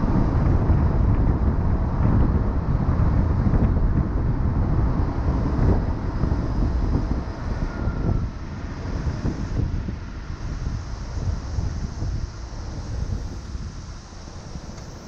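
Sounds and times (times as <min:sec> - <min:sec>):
car tyres rumbling on highway: 0:00.0 - 0:15.0.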